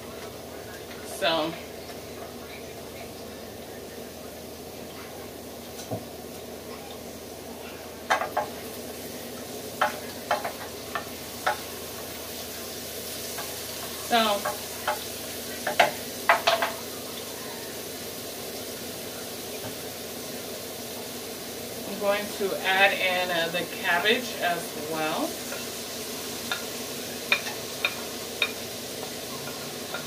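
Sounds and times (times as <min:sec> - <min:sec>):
vegetables sizzling in skillet: 0:00.0 - 0:30.0.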